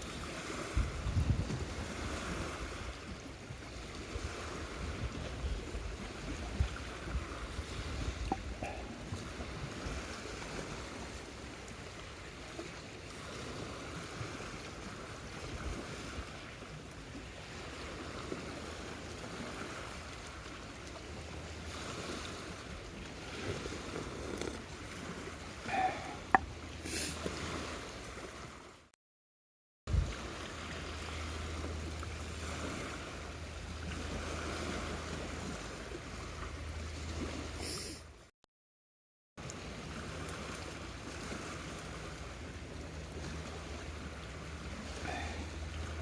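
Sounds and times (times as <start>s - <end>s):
rushing water: 0.0s - 28.9s, 29.9s - 38.2s, 39.4s - 46.0s
wind: 0.0s - 29.0s, 29.9s - 38.3s, 39.4s - 46.0s.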